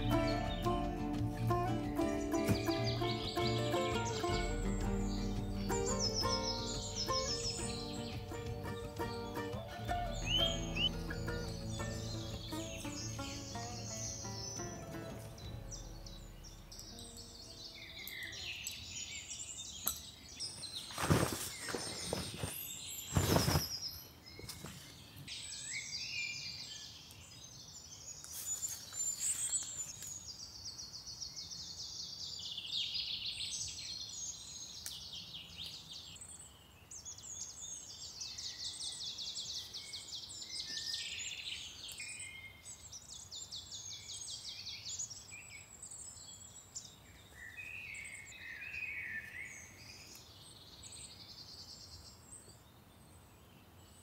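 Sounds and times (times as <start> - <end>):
songbirds trilling and chirping: 0.0 - 54.0.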